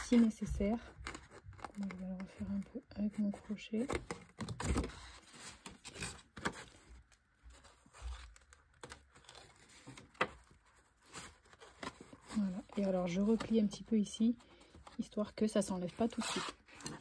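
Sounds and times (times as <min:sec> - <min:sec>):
cardstock rustling and clicking: 0:00.0 - 0:17.0.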